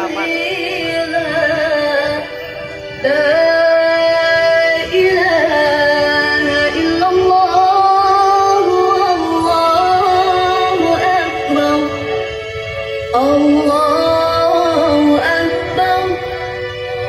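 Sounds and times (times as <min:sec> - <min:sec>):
loud music with sung melody: 0:00.0 - 0:17.0.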